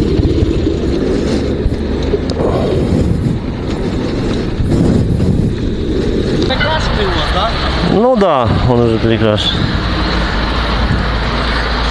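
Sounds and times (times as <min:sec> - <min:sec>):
motorcycle engine pulsing drone: 0:00.0 - 0:11.9.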